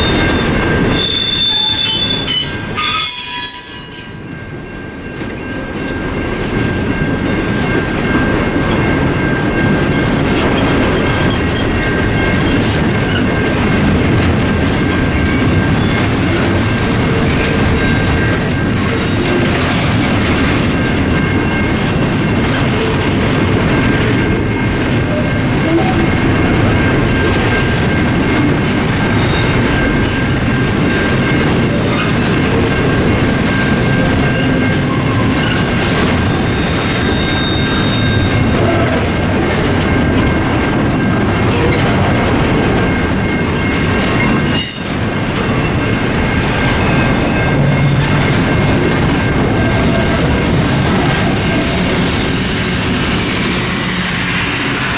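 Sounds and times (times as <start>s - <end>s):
crossing signal bells ringing: 0.0s - 54.9s
freight train wheels clacking: 0.0s - 54.9s
train rumble: 0.0s - 54.9s.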